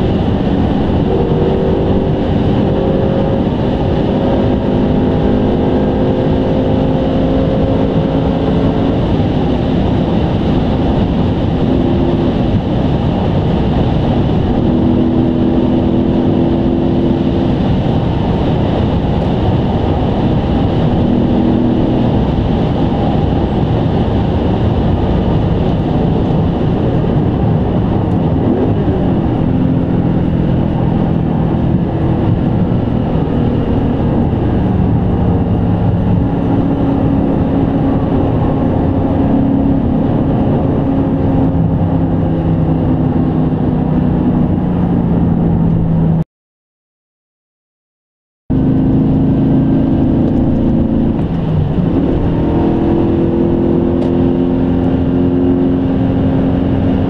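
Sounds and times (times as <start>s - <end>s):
car engine drone: 0.0s - 46.2s, 48.5s - 57.0s
tyre and road rumble: 0.0s - 46.2s, 48.5s - 57.0s.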